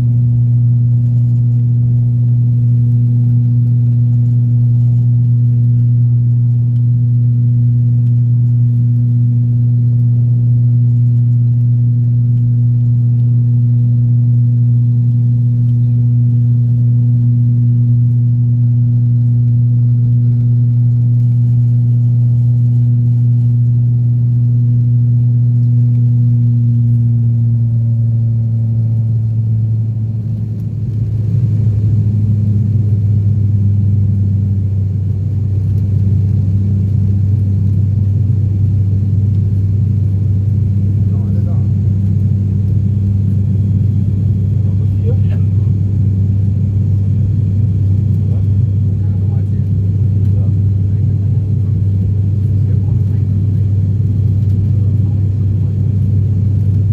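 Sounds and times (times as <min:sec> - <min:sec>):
propeller plane cabin drone: 0:00.0 - 0:56.9.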